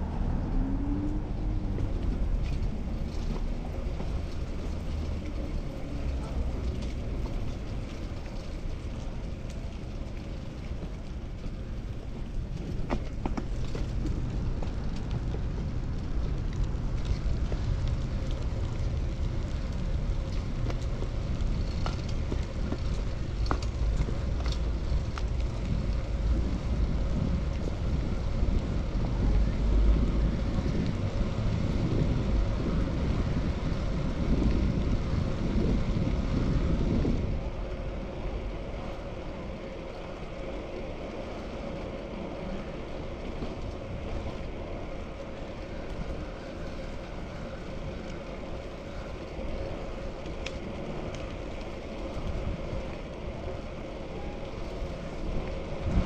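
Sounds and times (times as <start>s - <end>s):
road and traffic noise: 0.0s - 56.0s
wind buffeting microphone: 0.0s - 56.0s.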